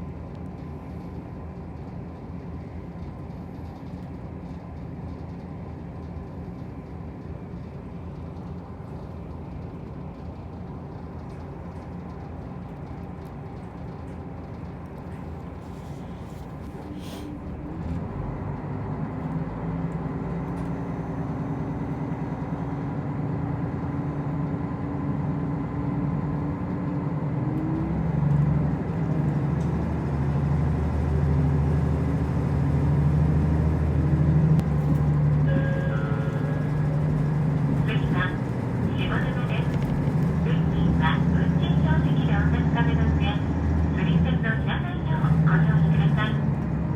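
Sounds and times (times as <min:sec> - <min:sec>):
railcar engine and wheels rumbling: 0:00.0 - 0:46.9.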